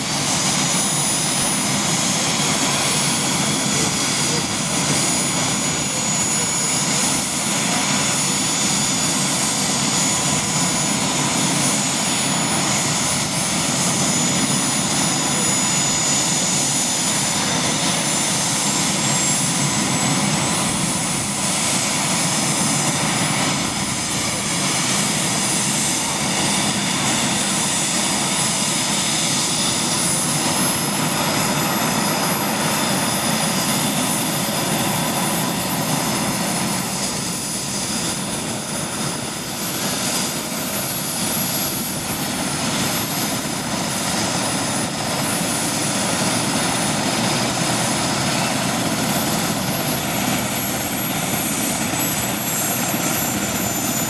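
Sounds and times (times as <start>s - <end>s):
helicopter engine and rotor noise: 0.0s - 54.0s
high turbine whine: 0.0s - 54.0s.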